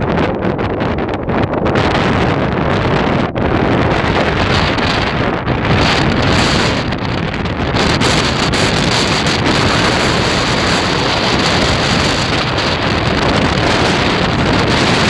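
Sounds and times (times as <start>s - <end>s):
wind blowing over microphone: 0.0s - 15.0s.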